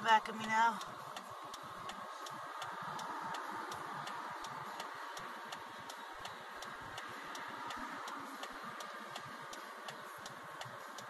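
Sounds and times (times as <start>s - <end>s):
car indicator relay clicking: 0.0s - 11.0s
steady hiss inside car: 0.0s - 11.0s.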